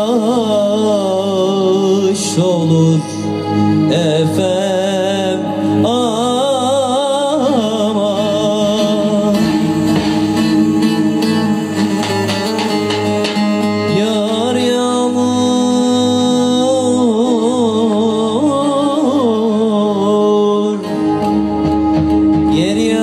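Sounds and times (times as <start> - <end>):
man singing folk song: 0.0 - 21.3, 22.4 - 23.0
plucked string instrument: 0.0 - 23.0
low drone: 3.0 - 23.0.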